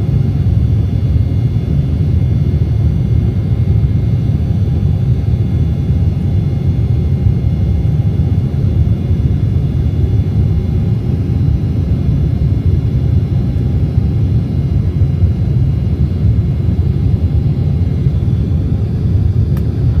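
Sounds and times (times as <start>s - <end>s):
faint engine whine: 0.0s - 20.0s
jet engines rumbling in cabin: 0.0s - 20.0s.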